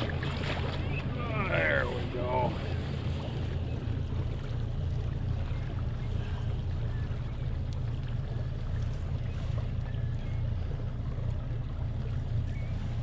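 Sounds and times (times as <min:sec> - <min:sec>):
boat motor rumbling: 0:00.0 - 0:13.0
light wind: 0:00.0 - 0:13.0
water noise: 0:00.0 - 0:13.0.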